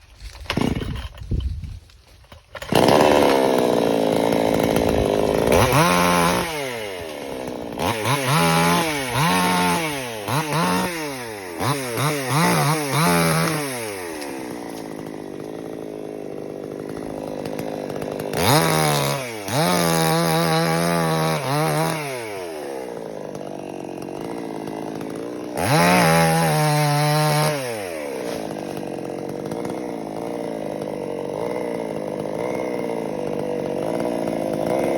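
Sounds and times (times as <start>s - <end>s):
chainsaw revving: 0.2s - 1.5s, 2.2s - 34.9s.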